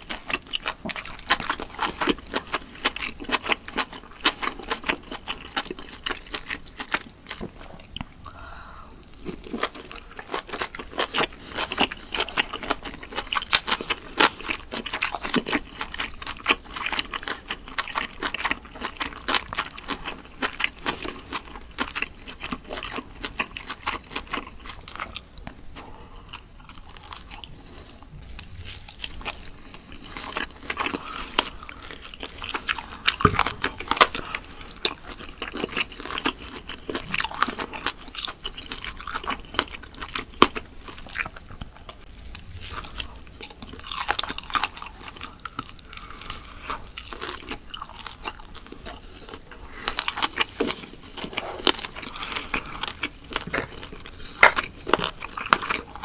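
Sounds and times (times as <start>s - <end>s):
chewing grilled meat: 0.0s - 56.0s.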